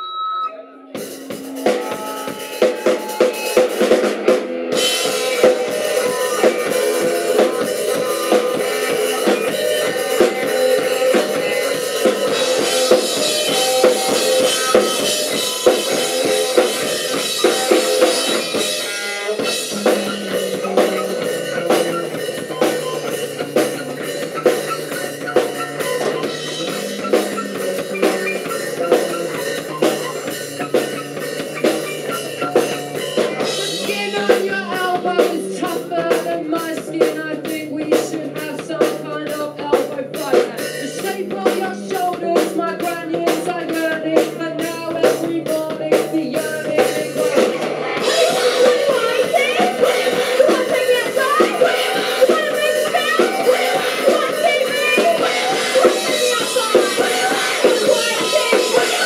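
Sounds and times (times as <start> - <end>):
electric guitar: 0.0 - 59.0
drum kit: 0.9 - 59.0.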